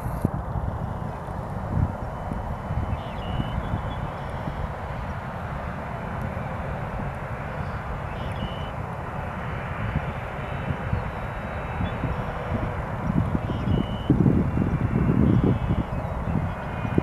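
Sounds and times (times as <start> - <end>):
jet engines taxiing: 0.0 - 17.0.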